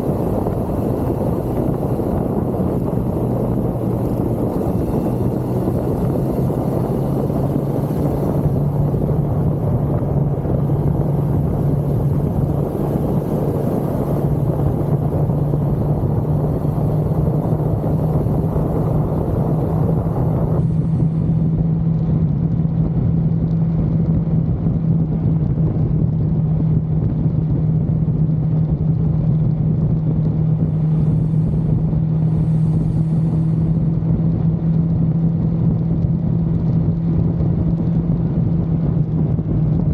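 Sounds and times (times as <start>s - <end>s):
heavy wind rush: 0.0s - 39.9s
motorcycle engine running: 0.0s - 39.9s.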